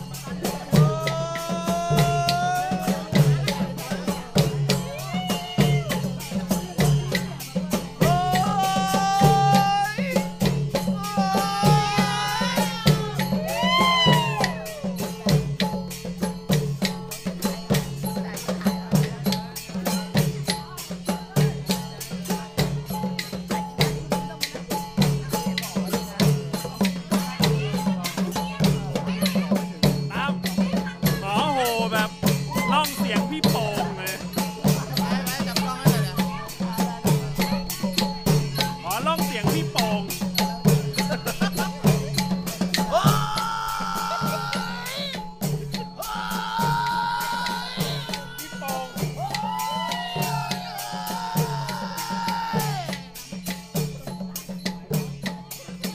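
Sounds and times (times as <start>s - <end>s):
long drums playing fast rhythm: 0.0s - 55.9s
voices calling out: 0.0s - 55.9s.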